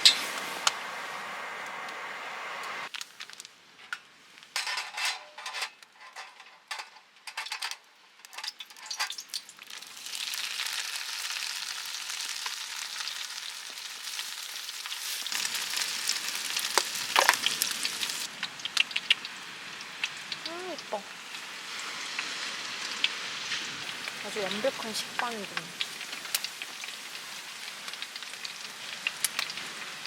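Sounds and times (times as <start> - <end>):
food sizzling in a pan: 0.0 - 3.4, 8.5 - 30.0.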